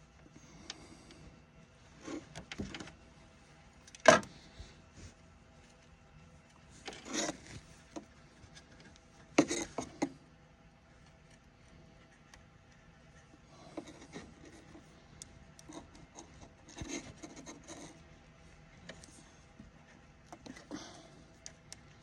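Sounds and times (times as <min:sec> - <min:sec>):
rubbing and scraping of wires: 0:00.0 - 0:22.0.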